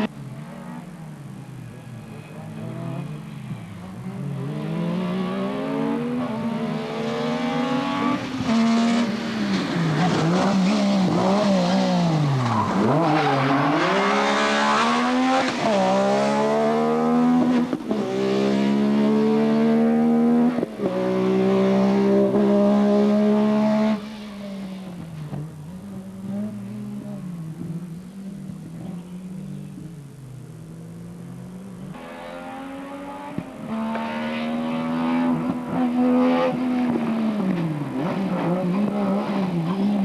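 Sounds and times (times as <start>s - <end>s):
rally car engine revving: 2.0s - 40.0s.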